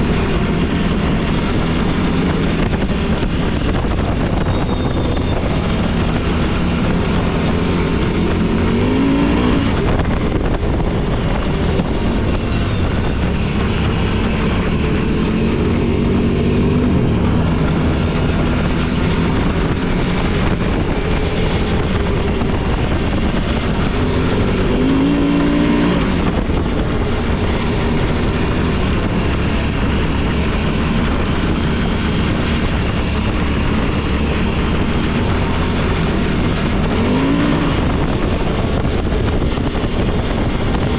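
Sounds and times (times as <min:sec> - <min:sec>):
off-road vehicle engine revving: 0:00.0 - 0:40.9
ride rumble: 0:00.0 - 0:40.9.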